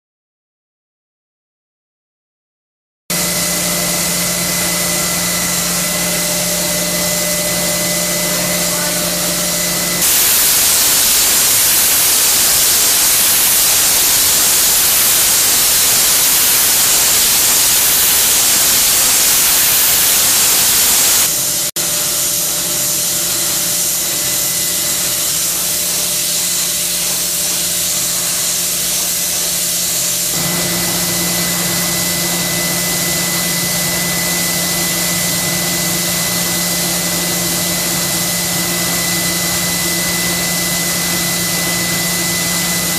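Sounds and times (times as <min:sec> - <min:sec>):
machine humming and whining: 0:03.1 - 0:25.9, 0:30.2 - 0:42.9
sandblasting air hiss: 0:04.0 - 0:42.9.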